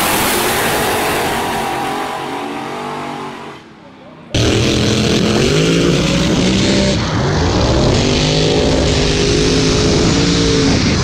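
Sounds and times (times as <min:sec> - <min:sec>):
drag car engine accelerating: 0:00.0 - 0:11.0.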